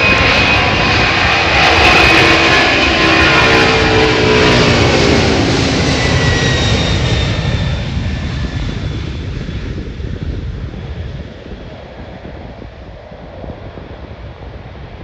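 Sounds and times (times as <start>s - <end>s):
airliner engines passing: 0.0s - 15.0s.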